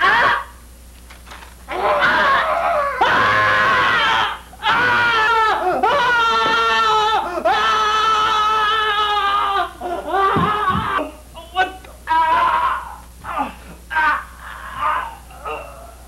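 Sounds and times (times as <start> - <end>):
man screaming: 0.0 - 0.5, 1.7 - 15.7.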